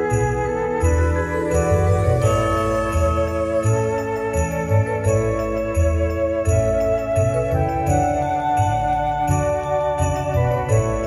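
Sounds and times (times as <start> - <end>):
christmas music with sleigh bells: 0.0 - 11.0
christmas music with steady beat: 0.0 - 11.0.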